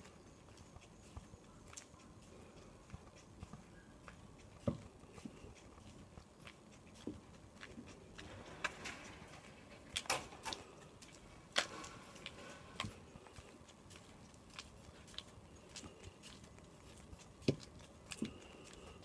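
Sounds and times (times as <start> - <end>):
footsteps on asphalt: 0.0 - 19.0.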